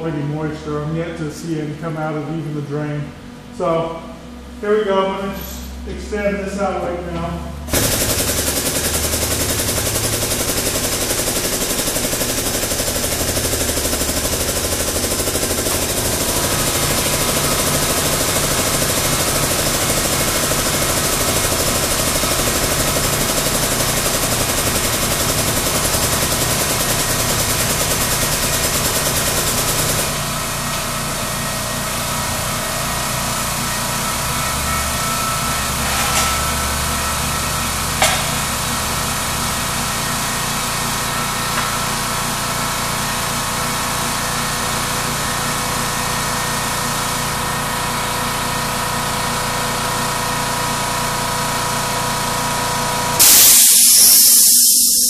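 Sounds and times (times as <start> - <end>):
air compressor running: 0.0 - 55.0.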